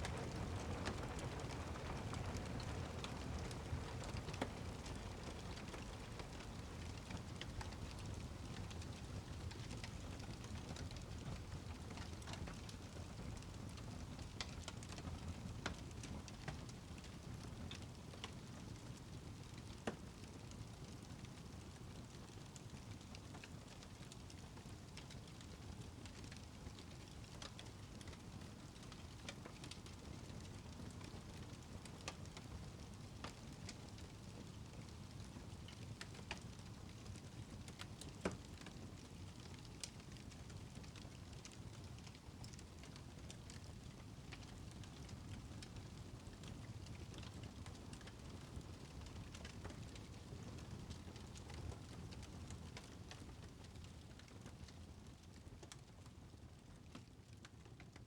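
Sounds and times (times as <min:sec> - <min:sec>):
faint steady rain: 0:00.0 - 0:58.0.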